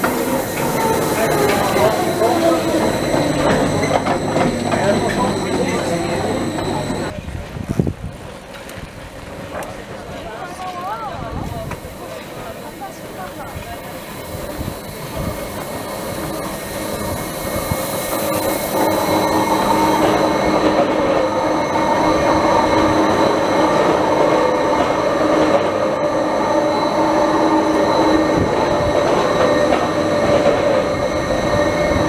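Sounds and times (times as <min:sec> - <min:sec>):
rack railway train passing: 0:00.0 - 0:32.0.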